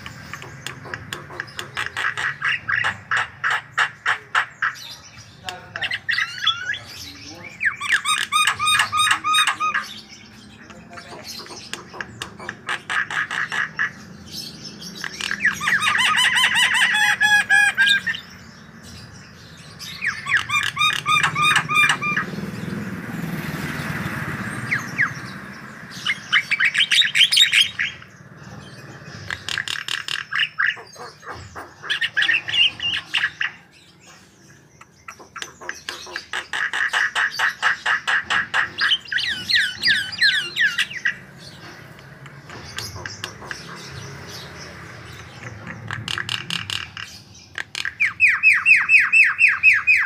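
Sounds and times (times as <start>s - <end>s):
bird chattering and whistling: 0.0s - 22.9s, 24.5s - 50.0s.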